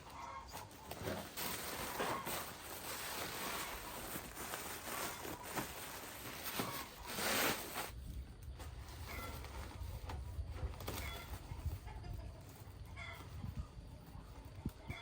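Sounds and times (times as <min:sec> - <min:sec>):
rustling and scraping: 0:00.0 - 0:15.0.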